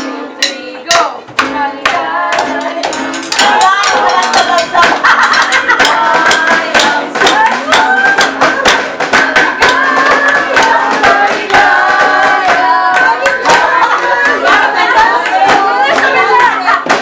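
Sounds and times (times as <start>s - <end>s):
group of people singing: 0.0s - 17.0s
hands clapping: 0.9s - 17.0s.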